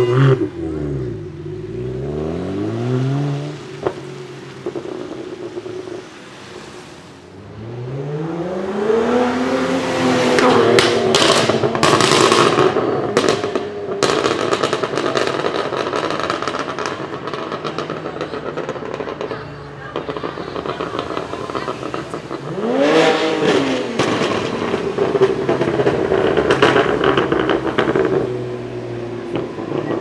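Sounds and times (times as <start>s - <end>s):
car engine revving: 0.0s - 30.0s
exhaust bangs and crackling: 0.0s - 30.0s.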